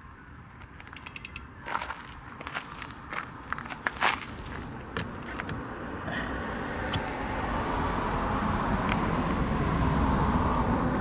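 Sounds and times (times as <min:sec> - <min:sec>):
passing road vehicle: 0:01.0 - 0:11.0.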